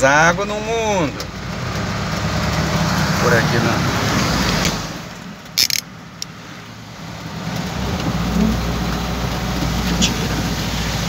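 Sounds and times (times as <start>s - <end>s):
heavy rain on vehicle: 0.1s - 11.0s
vehicle engine hum: 0.3s - 11.0s.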